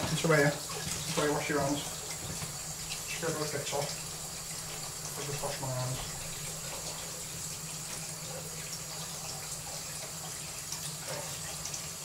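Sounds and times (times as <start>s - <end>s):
tap running into sink: 0.0s - 10.2s
hands washing under water: 0.0s - 12.0s.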